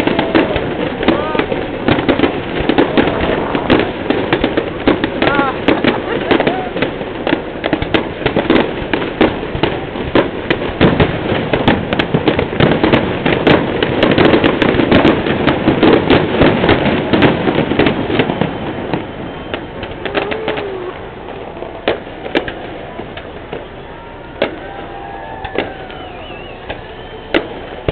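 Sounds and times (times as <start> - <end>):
fireworks bangs and crackles: 0.0 - 27.9.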